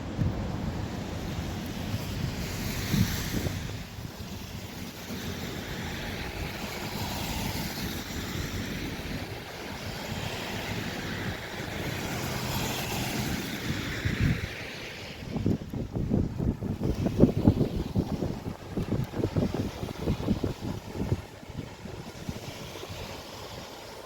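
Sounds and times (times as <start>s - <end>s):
highway traffic rushing: 0.0s - 24.0s
wind buffeting microphone: 0.0s - 24.0s.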